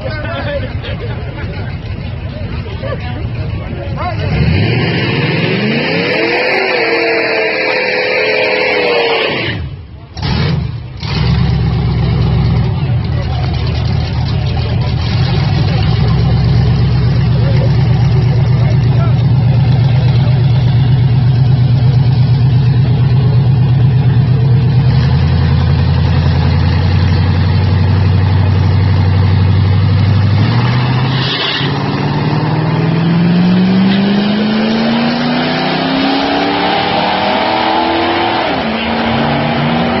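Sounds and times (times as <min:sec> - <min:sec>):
car engine accelerating hard: 0:00.0 - 0:40.0
car engines running loud: 0:00.0 - 0:40.0.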